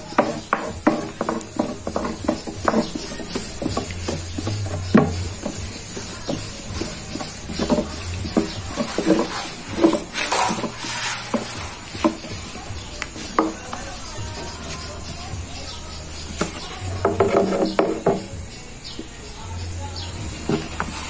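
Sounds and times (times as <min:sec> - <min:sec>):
rolling pin knocking on wooden board: 0:00.0 - 0:15.2, 0:16.3 - 0:18.3.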